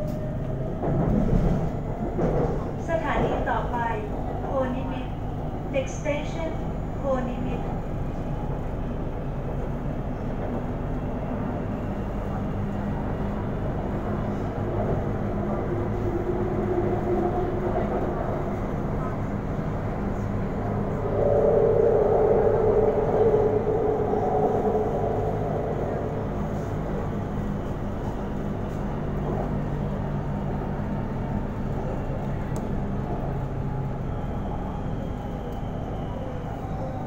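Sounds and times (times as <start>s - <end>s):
train wheels and motors rumbling: 0.0s - 37.0s.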